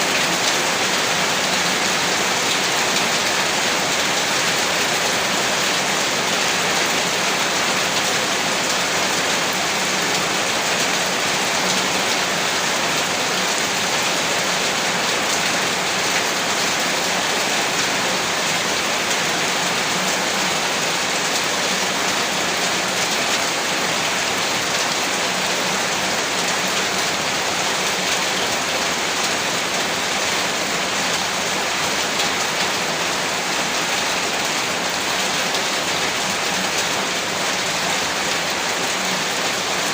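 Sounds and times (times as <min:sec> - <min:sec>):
heavy rain on a rooftop: 0:00.0 - 0:39.9.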